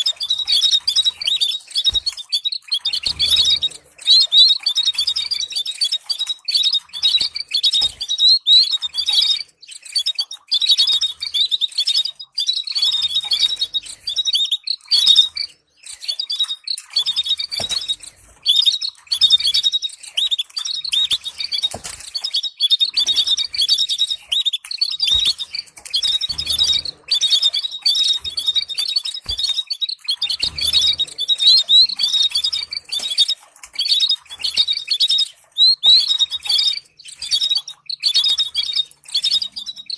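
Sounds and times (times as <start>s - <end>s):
canary chirping and trilling: 0.0s - 39.9s.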